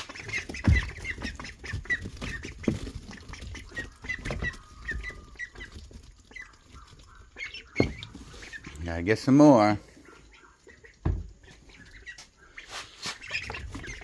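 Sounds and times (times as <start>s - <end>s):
ducks pecking at fruit: 0.0s - 14.0s
high peeping calls: 0.0s - 14.0s.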